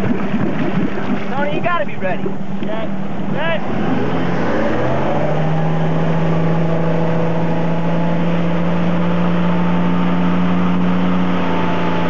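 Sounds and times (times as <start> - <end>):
boat engine running hard: 0.0 - 12.0
rush of wind and water: 0.0 - 12.0.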